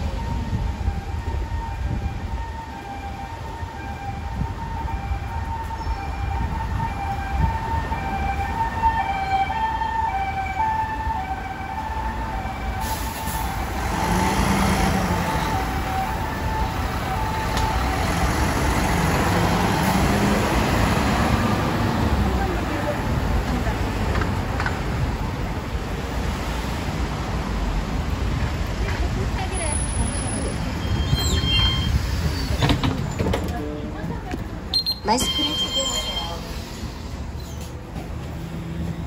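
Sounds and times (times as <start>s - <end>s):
dump truck passing: 0.0s - 39.0s
street traffic: 0.0s - 39.0s.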